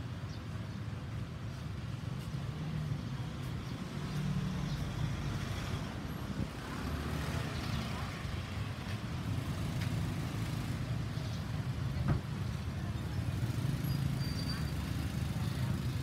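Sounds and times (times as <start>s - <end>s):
road noise: 0.0s - 16.0s
vehicle engines humming: 0.9s - 16.0s.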